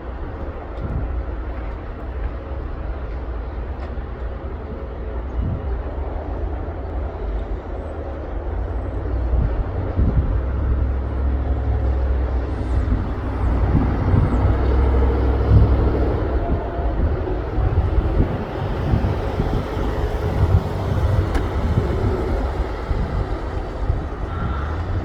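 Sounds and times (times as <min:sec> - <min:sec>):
jet engines rumbling: 0:00.1 - 0:25.0.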